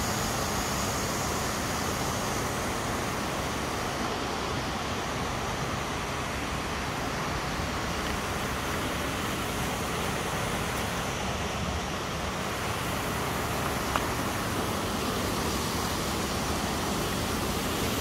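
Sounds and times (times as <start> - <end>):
flowing creek water: 0.0 - 18.0.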